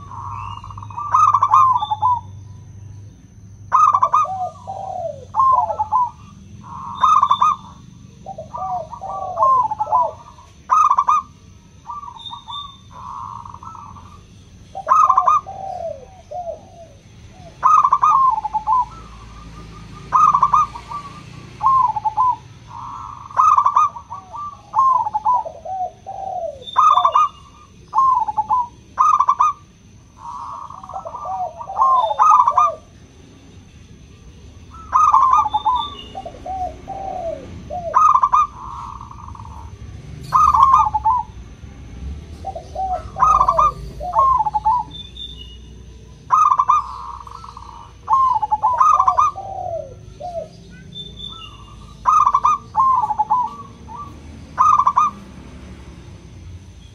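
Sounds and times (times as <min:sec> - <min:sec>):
dove cooing: 0:00.0 - 0:33.3, 0:33.9 - 0:56.9.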